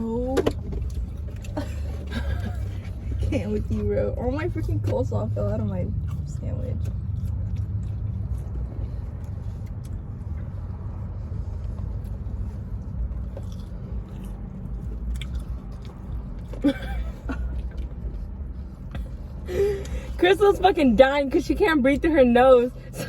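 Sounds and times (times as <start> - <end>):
low car rumble: 0.0 - 23.0
chewing and biting food: 0.5 - 20.2.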